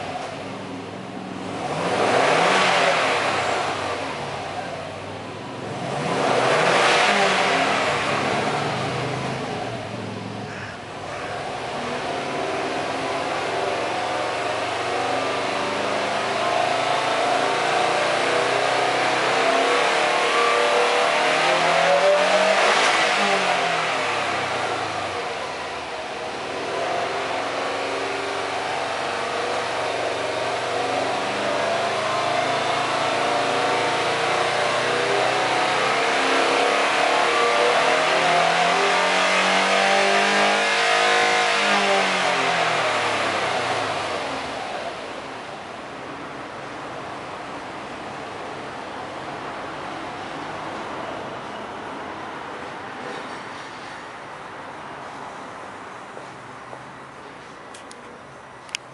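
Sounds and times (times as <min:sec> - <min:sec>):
car engine revving: 0:00.0 - 0:56.4.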